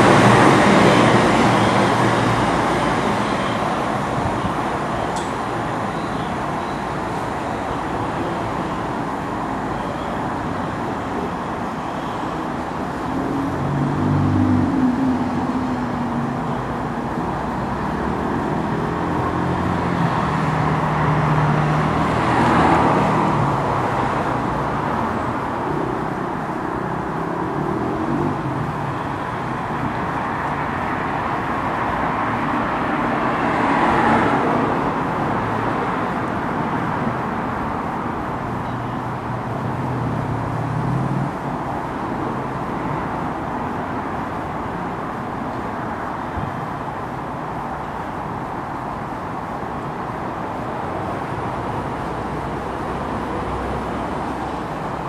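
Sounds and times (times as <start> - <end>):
road traffic noise: 0.0 - 55.0
vehicles passing: 0.0 - 55.0.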